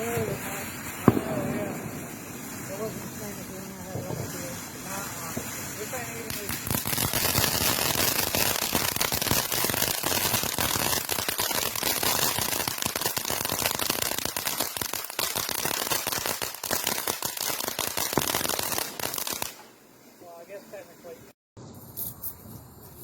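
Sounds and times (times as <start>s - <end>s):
fireworks crackling: 0.0s - 23.0s.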